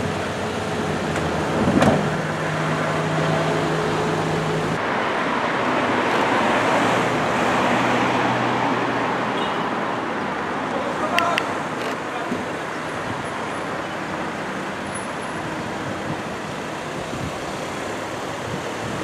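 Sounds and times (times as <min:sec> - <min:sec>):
vans driving off: 0:00.0 - 0:19.0.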